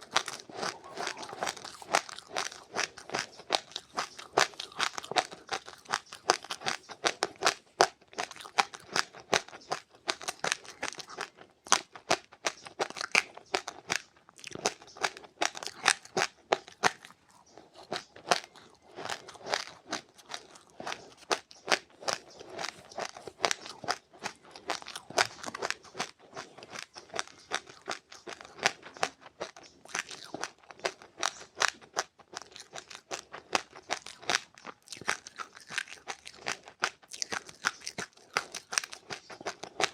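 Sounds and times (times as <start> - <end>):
crunching and chewing seeds: 0.0 - 39.9.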